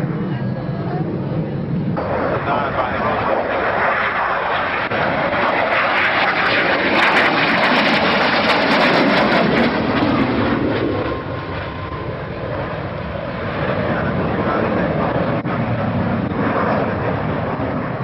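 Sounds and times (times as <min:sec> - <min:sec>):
aircraft engine roar: 0:00.0 - 0:18.0.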